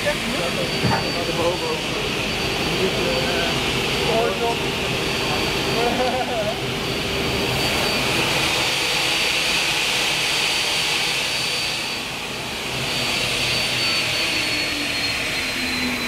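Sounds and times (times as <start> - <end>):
cutting saw hiss and whine: 0.0 - 16.0.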